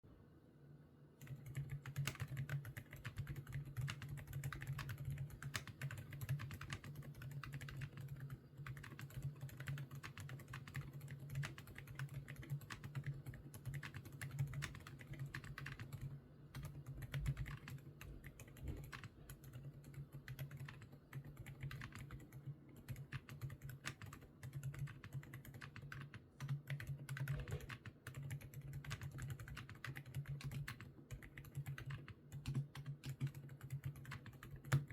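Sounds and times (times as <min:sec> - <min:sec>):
mechanical keyboard typing clicks: 0:01.2 - 0:34.9.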